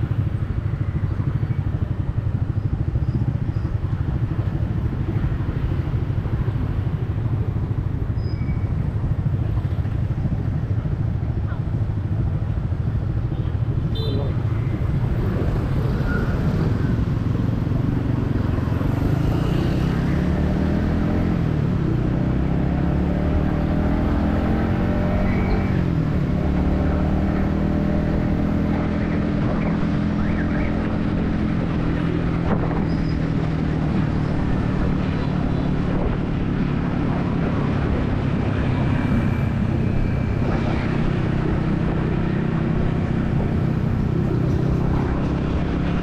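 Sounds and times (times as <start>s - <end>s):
motorcycle engine riding: 0.0s - 46.0s.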